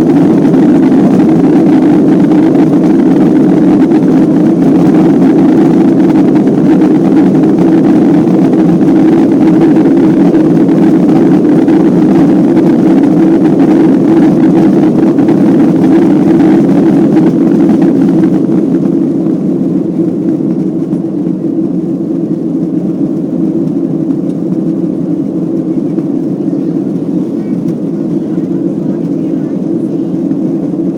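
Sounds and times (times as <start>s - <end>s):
jet engine roar in cabin: 0.0s - 30.9s.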